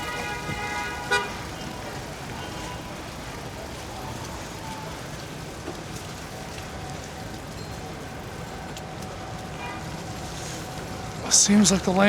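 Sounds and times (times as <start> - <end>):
bicycle tyres on slush: 0.0 - 12.0
traffic: 0.0 - 12.0.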